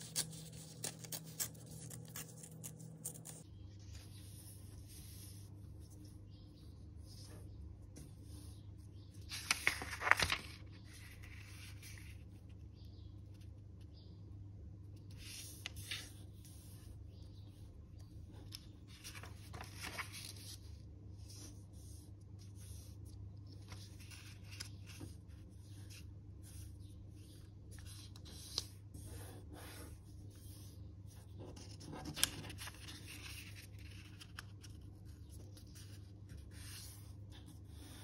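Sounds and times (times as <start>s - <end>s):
paper rustling while folded: 0.0s - 6.1s, 9.1s - 12.3s, 15.2s - 16.9s, 18.4s - 38.0s.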